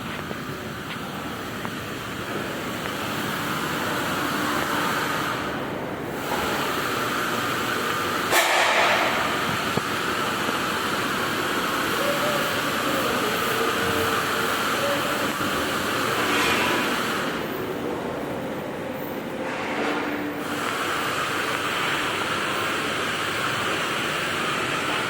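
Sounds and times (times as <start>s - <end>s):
vehicle running noise: 0.0s - 25.0s.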